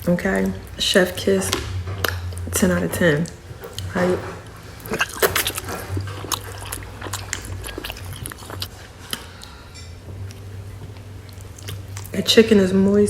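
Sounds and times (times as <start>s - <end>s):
low steady hum: 0.0s - 13.0s
wet chewing and mouth smacks: 1.5s - 12.2s.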